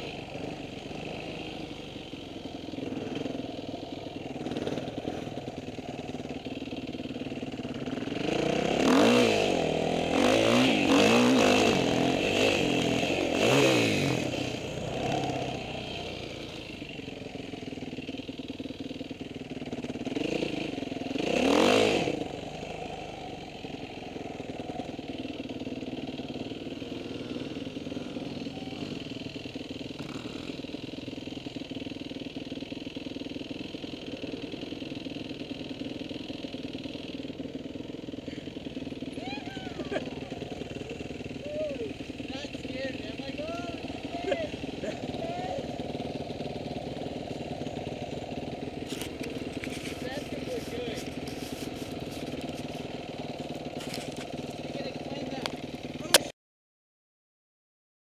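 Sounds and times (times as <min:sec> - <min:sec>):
motorcycle engine revving: 0:00.0 - 0:56.3.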